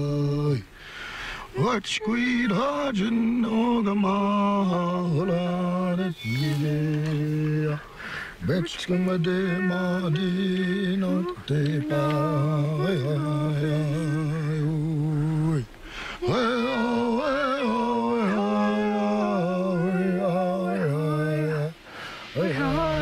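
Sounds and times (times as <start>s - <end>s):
person singing wordless chant: 1.5s - 23.0s.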